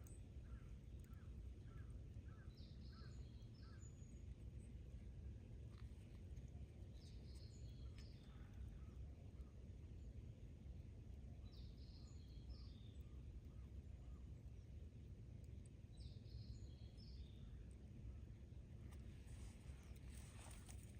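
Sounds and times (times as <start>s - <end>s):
low outdoor rumble: 0.0s - 20.9s.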